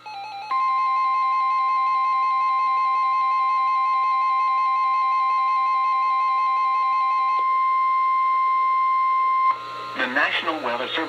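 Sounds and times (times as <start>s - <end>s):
wavering electronic alert tone: 0.0s - 9.6s
high-pitched alarm tone: 0.0s - 10.0s.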